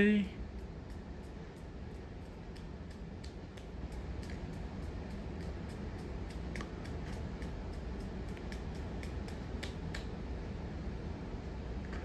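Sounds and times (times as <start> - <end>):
fan light regular tick: 0.0 - 10.8
ceiling fan humming: 0.0 - 12.0.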